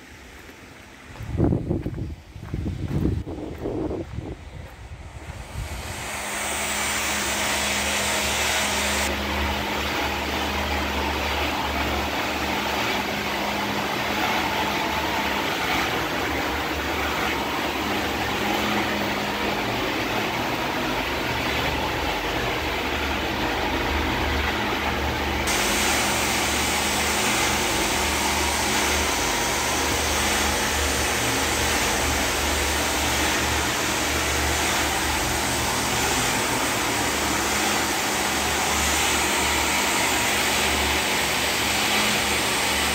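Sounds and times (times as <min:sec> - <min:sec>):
electric pump humming: 0:00.0 - 0:42.9.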